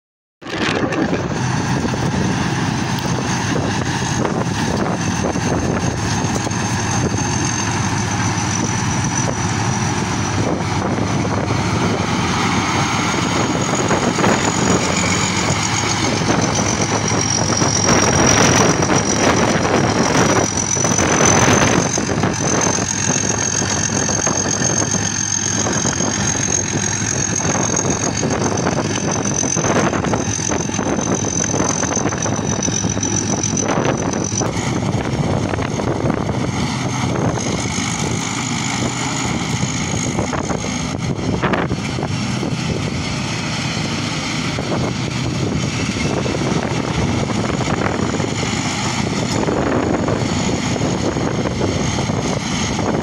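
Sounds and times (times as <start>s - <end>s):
harvester engine drone: 0.4s - 53.0s
thin high machine whine: 0.4s - 53.0s.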